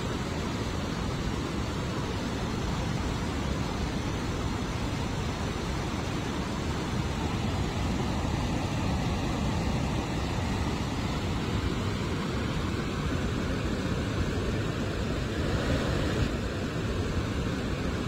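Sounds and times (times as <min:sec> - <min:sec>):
water rushing through spillway: 0:00.0 - 0:18.0.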